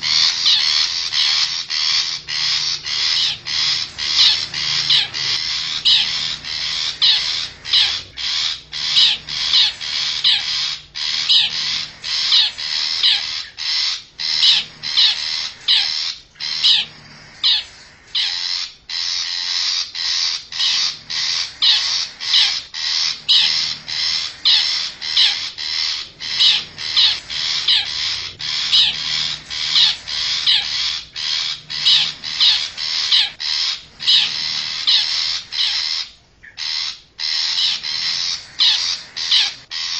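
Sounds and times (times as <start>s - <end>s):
shrike harsh calls: 0.0s - 39.9s.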